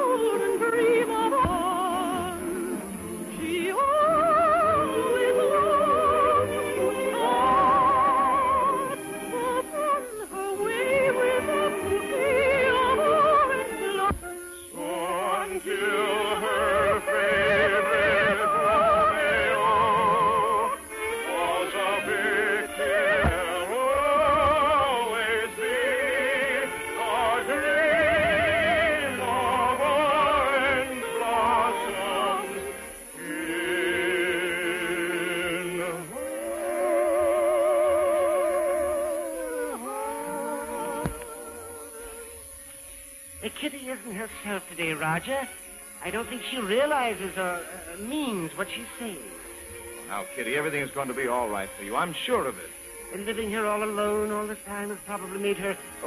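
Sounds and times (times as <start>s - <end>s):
operatic singing: 0.0s - 42.4s, 45.9s - 56.0s
orchestral accompaniment: 0.0s - 56.0s.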